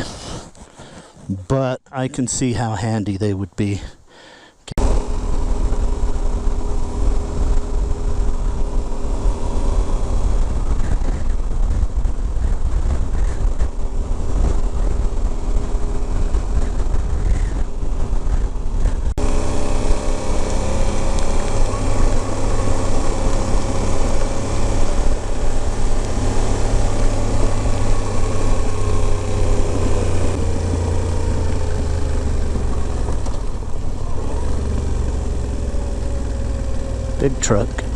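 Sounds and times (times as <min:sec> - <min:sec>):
road noise: 0:00.0 - 0:37.9
wind noise: 0:04.8 - 0:37.2
motorcycle engine running: 0:04.8 - 0:37.9.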